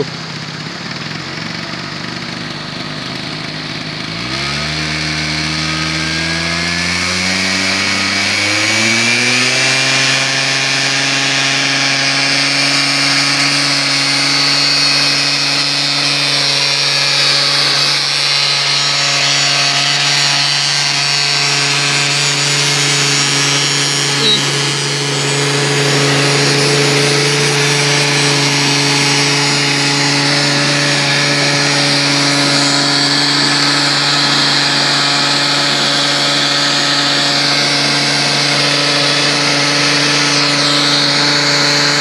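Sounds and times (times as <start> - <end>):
scooter engine revving: 0.0 - 42.0.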